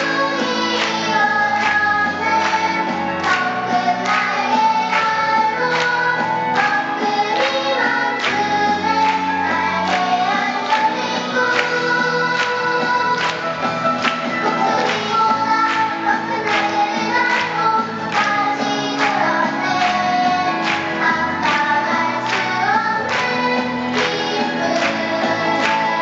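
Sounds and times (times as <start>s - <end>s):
instrumental backing with beat: 0.0s - 26.0s
voices singing: 0.0s - 26.0s.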